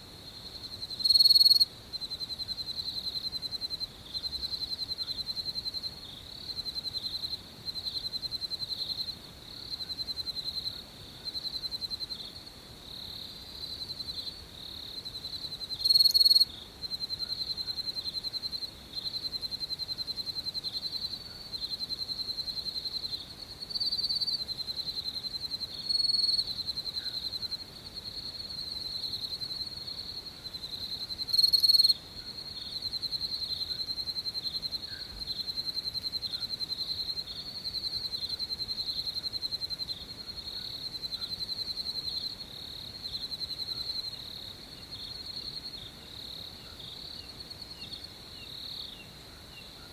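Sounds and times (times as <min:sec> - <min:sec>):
close cricket chirping: 0:00.0 - 0:49.9
crickets chirping: 0:00.0 - 0:49.9.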